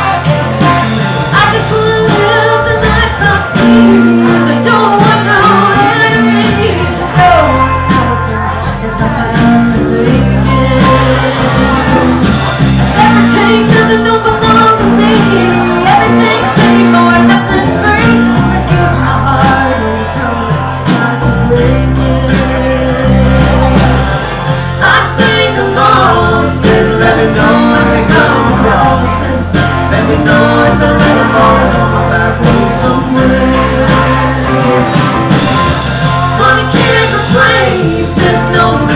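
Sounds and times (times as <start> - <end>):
electric bass notes: 0.0 - 38.9
guitar: 0.0 - 38.9
person singing: 0.0 - 38.9.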